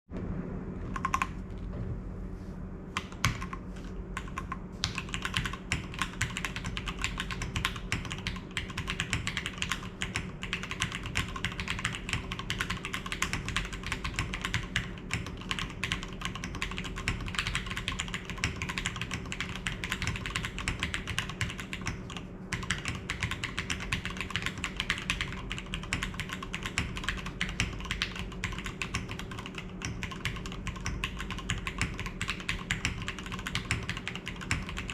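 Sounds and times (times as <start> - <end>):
mechanical keyboard typing: 1.0 - 1.4, 4.2 - 34.9.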